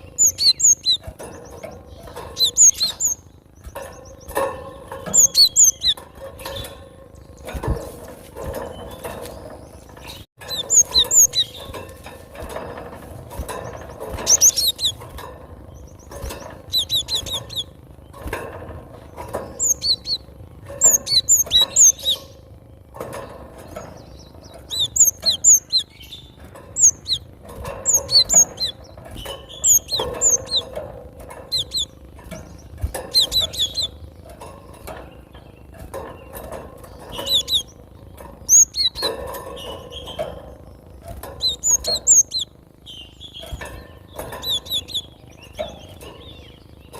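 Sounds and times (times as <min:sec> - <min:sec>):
bird chirping: 0:00.0 - 0:46.9.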